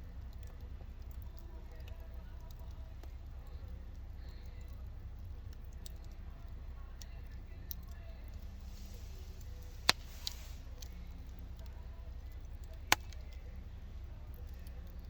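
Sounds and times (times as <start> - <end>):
wood fire rumbling: 0.0 - 15.0
wood popping: 0.0 - 15.0.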